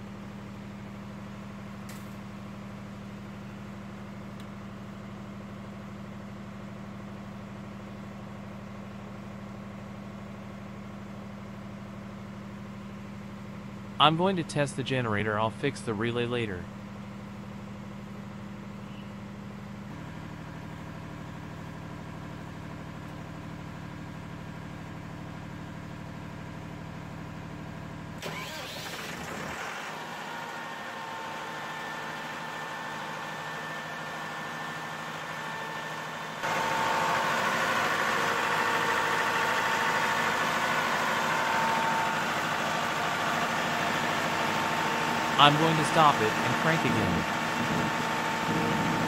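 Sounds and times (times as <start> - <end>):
diesel generator engine running: 0.0 - 49.0.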